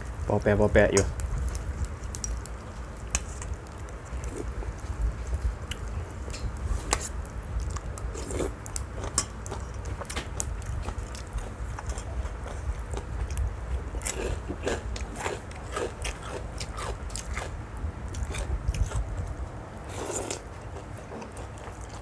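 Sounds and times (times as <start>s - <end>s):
pork rinds crackling in soup: 0.0s - 22.0s.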